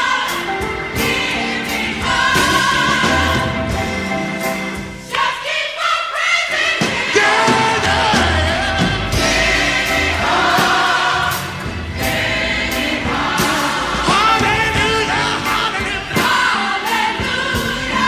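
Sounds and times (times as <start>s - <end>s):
band accompaniment: 0.0s - 18.0s
gospel choir singing: 0.0s - 18.0s.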